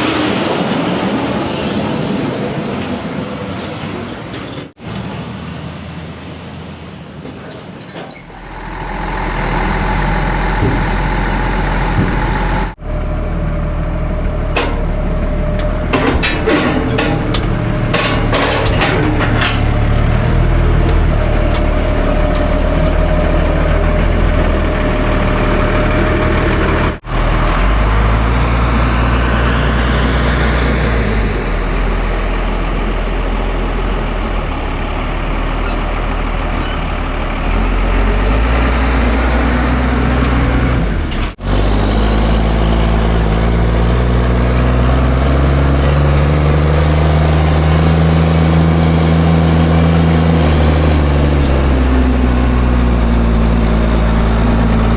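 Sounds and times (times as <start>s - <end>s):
diesel truck engine shifting gears: 7.4s - 54.9s.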